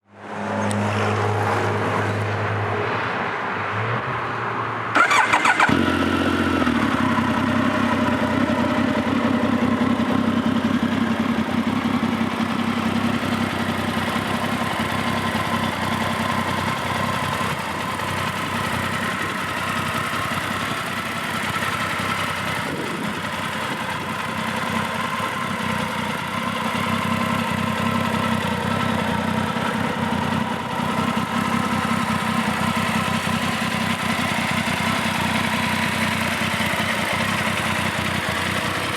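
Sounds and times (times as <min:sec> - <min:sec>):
motorcycle engine starting and idling: 0:04.9 - 0:38.9.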